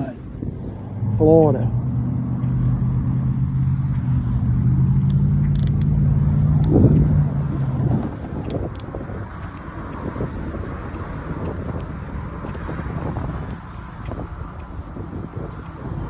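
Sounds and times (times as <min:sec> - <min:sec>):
car engine humming: 0:00.0 - 0:16.0
road noise: 0:00.0 - 0:16.0.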